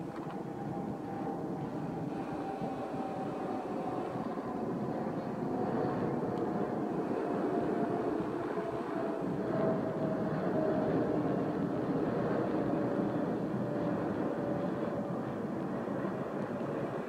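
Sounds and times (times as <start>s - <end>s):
jet airliner passing overhead: 0.0s - 17.0s.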